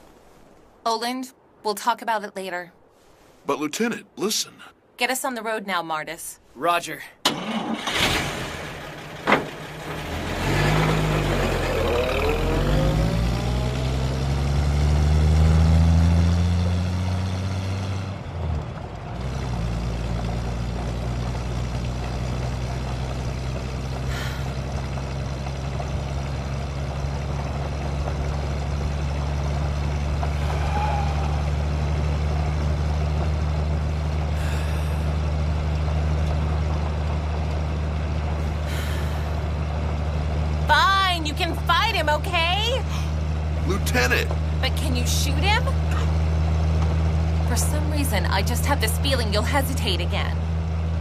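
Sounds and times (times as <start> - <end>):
vehicle engine running: 7.4 - 51.0.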